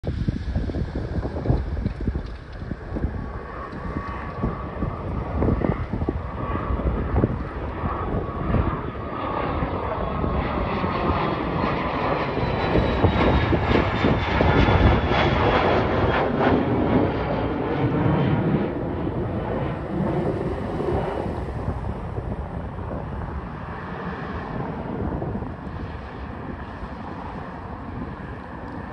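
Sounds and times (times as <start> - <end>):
jet engine whine: 0.0 - 28.9
jet taking off: 0.0 - 28.9.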